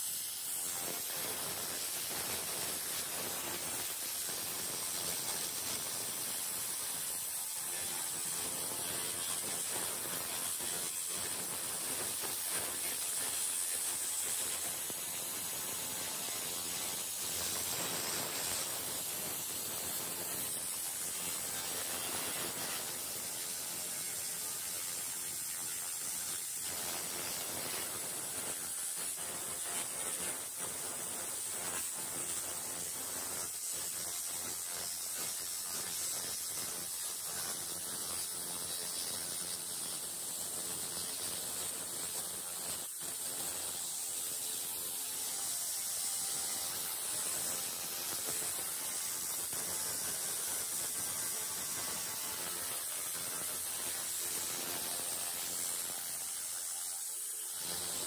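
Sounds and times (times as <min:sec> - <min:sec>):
laser cleaner hissing and crackling: 0:00.0 - 0:58.0.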